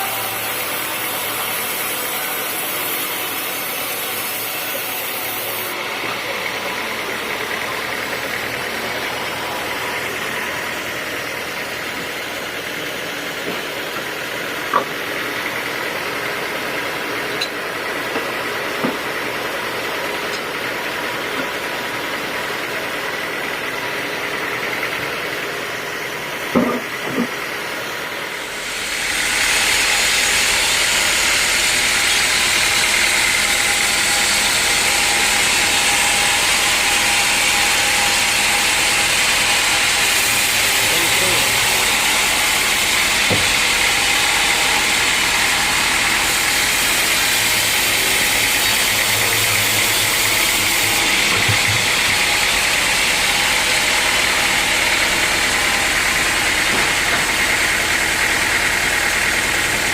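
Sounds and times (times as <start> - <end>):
sawmill machinery drone with hiss: 0.0 - 59.9.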